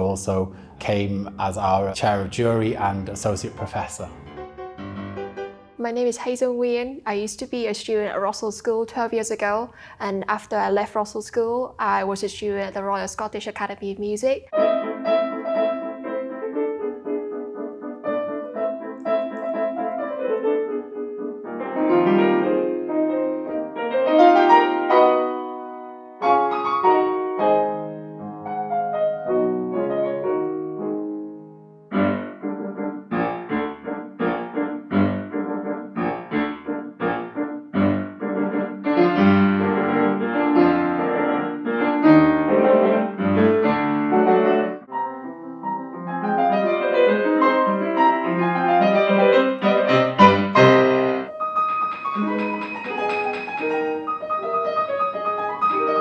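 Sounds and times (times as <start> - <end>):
solo piano playing: 0.0 - 6.4, 14.5 - 56.0.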